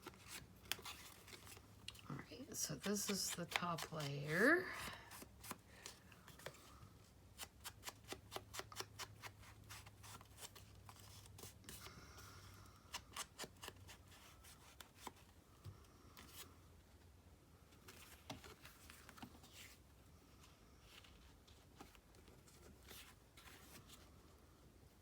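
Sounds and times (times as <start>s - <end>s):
paper and card rustling: 0.0s - 6.8s, 7.4s - 15.3s, 17.8s - 24.2s.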